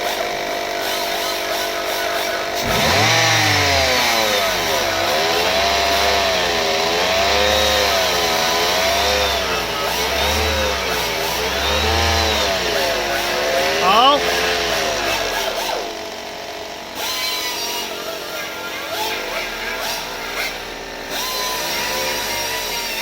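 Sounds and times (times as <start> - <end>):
car engine revving: 0.7 - 23.0.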